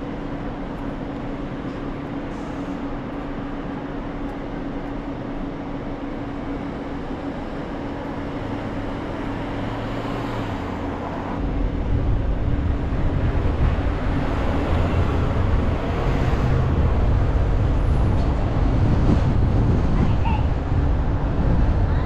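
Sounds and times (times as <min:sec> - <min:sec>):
engine and road rumble: 0:00.0 - 0:22.0
passing traffic: 0:00.0 - 0:22.0.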